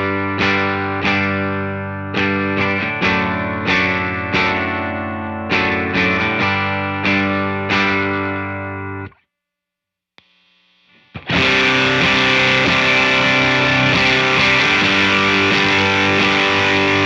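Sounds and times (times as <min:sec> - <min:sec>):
distorted electric guitar chords: 0:00.0 - 0:09.2, 0:10.2 - 0:17.0
distorted guitar riff: 0:00.0 - 0:09.2, 0:10.2 - 0:17.0.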